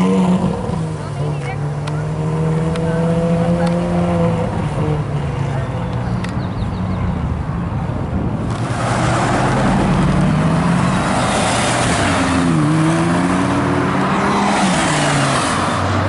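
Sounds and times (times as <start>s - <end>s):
sports car accelerating: 0.0s - 7.6s, 8.2s - 16.0s.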